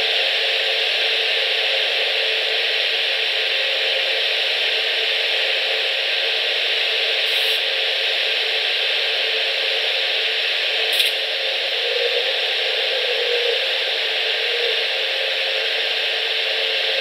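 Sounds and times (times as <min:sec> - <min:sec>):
static hiss: 0:00.0 - 0:17.0.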